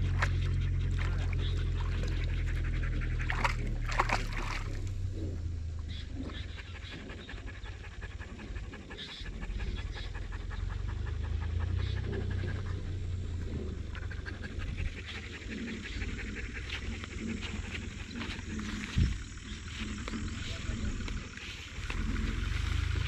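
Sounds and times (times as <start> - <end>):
dog panting rapidly: 0.0 - 5.4, 6.0 - 21.3
steady low rumble: 0.0 - 23.0.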